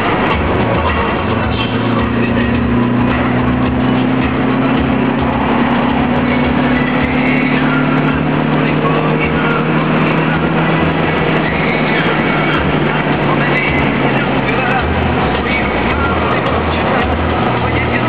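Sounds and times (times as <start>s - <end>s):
car engine droning at cruise: 0.0s - 18.0s
road and wind noise: 0.0s - 18.0s.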